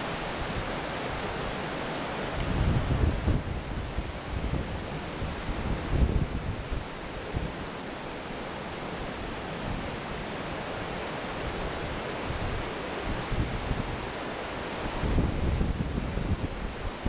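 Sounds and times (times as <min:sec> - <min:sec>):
wind buffeting microphone: 0:00.0 - 0:07.7, 0:09.0 - 0:17.0
flowing river water: 0:00.0 - 0:17.0.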